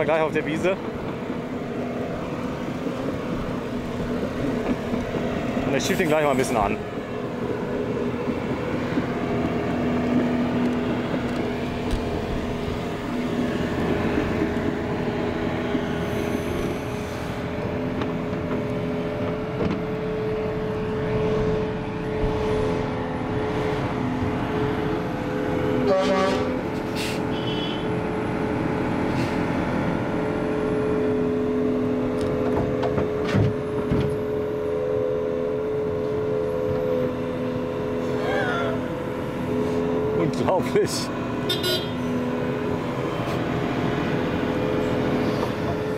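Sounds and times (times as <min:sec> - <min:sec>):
diesel engines droning: 0:00.0 - 0:45.9.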